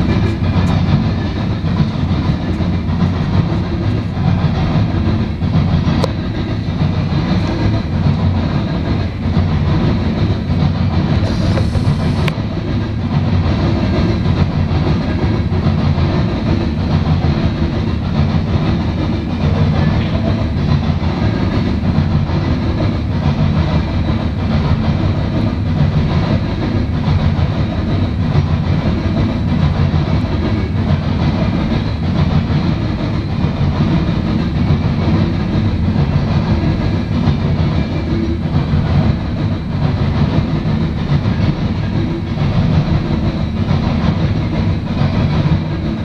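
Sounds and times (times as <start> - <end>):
freight train rumbling past: 0.0 - 46.0.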